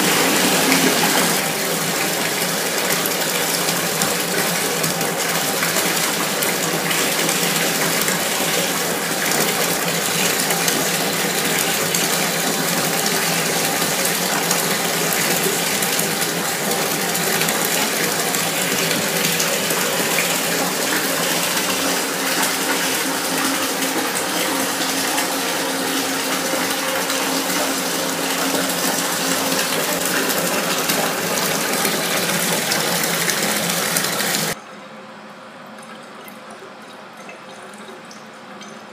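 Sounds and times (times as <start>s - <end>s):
tap water running into bathtub: 0.0s - 34.6s.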